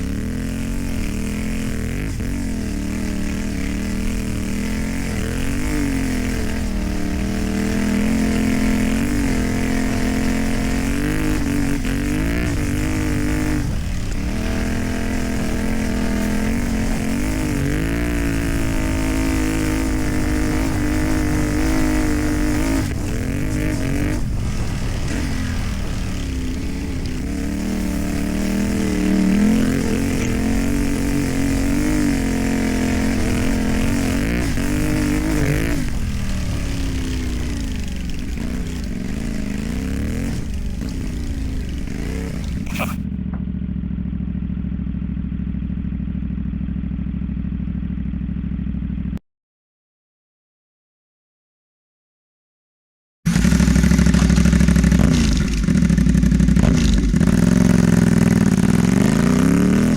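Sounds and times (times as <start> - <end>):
motorcycle engine revving: 0.0 - 49.2, 53.3 - 59.9.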